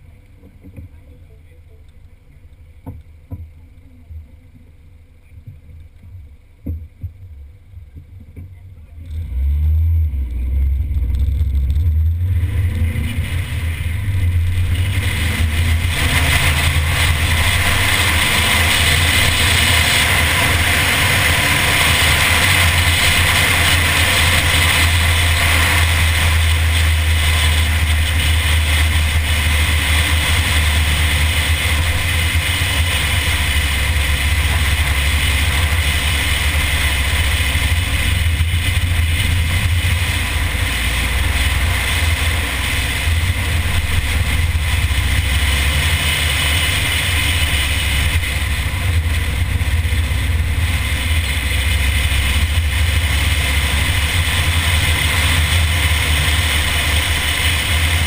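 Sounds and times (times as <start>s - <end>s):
car engine running: 0.0s - 58.0s
wind and road noise: 0.0s - 58.0s.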